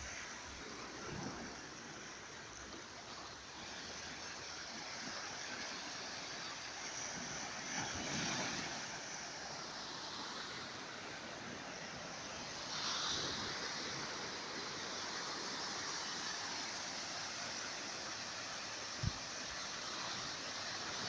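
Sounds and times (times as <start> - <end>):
ocean surf washing on beach: 0.0 - 21.0.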